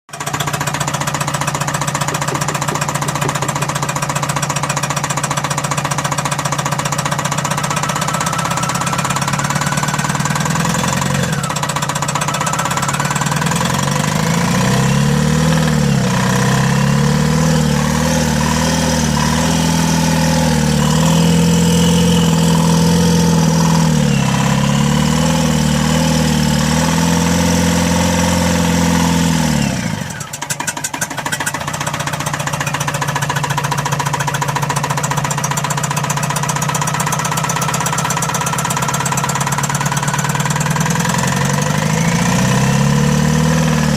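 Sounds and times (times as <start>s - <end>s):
diesel engine idling and revving: 0.1s - 43.9s.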